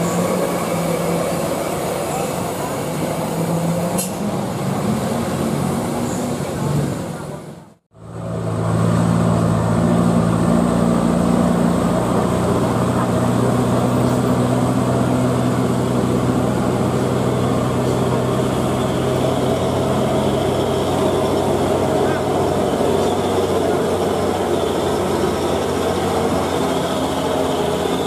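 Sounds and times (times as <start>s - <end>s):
truck diesel engine under load: 0.0s - 28.0s.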